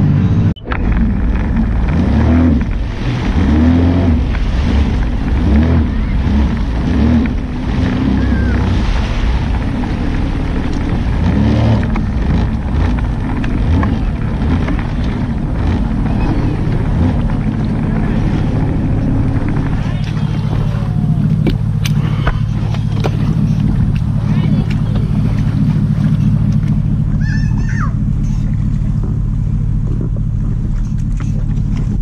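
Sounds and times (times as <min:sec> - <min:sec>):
jet ski engine running: 0:00.0 - 0:32.0.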